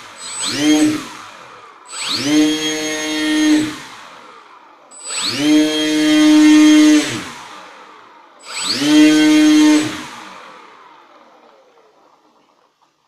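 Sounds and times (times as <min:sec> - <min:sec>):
electric motor and propeller whine: 0:00.0 - 0:12.6.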